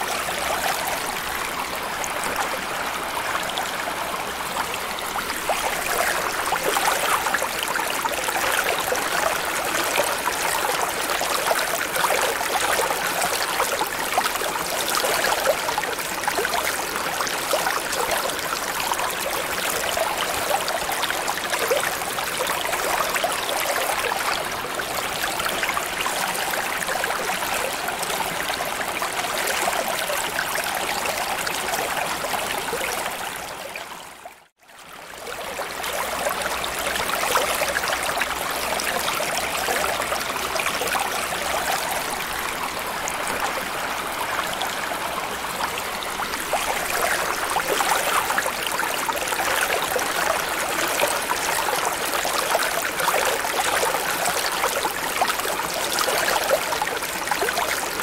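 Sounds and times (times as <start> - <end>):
flowing trickling water: 0.0 - 58.0.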